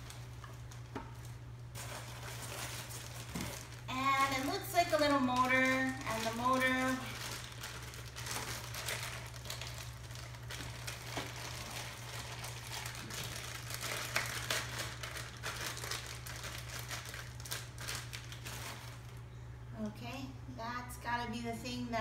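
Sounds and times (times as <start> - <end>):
plastic bag crinkling: 0.0 - 19.3.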